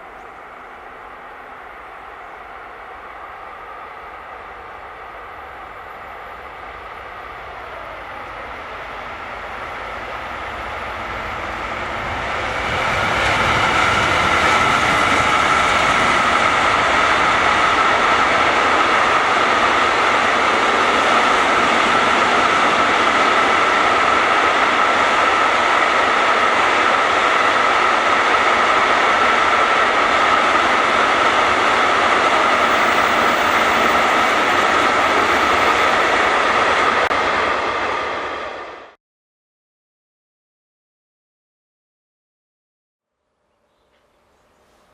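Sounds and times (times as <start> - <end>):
train passing at speed: 0.0 - 39.0.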